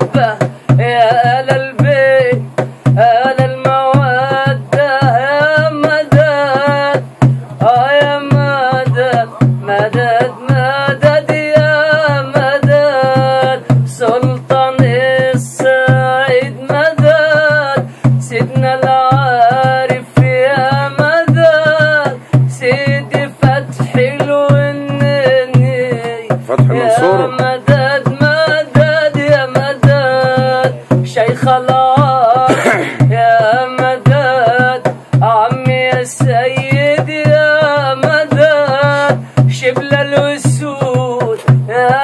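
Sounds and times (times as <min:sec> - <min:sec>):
man singing a chant: 0:00.0 - 0:42.0
tapped beat: 0:00.0 - 0:42.0.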